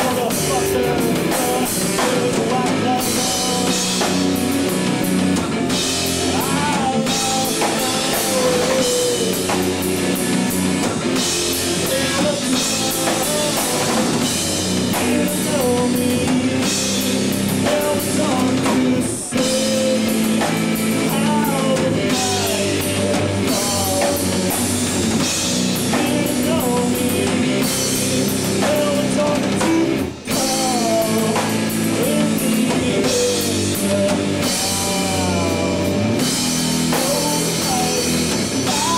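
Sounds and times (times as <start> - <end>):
person singing: 0.0 - 4.7, 5.6 - 24.8, 25.8 - 38.9
rock song with drums and guitars: 0.0 - 38.9.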